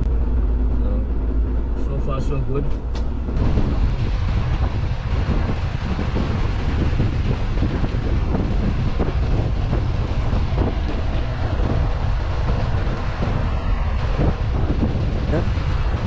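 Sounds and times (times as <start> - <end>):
car engine and road rumble: 0.0 - 16.0
wind buffeting microphone: 2.6 - 16.0.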